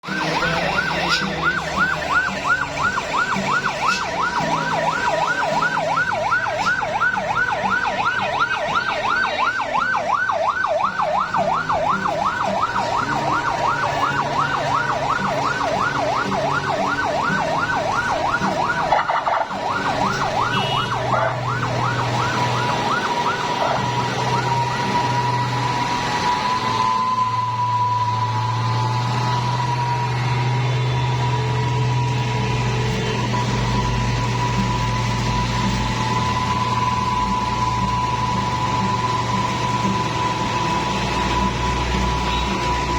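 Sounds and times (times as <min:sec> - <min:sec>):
heavy vehicle engine running: 0:00.0 - 0:09.0, 0:09.8 - 0:42.9
electronic siren yelping: 0:00.0 - 0:32.3, 0:33.0 - 0:42.9.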